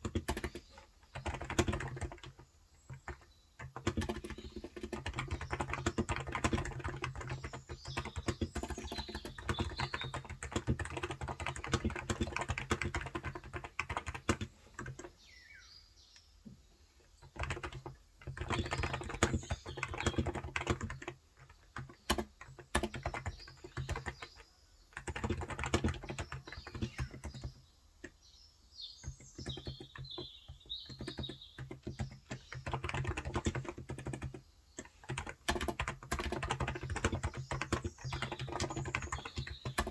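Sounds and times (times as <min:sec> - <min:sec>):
rapid keyboard typing: 0:00.0 - 0:15.2, 0:17.2 - 0:28.2, 0:29.0 - 0:39.9
birds chirping: 0:00.0 - 0:39.9.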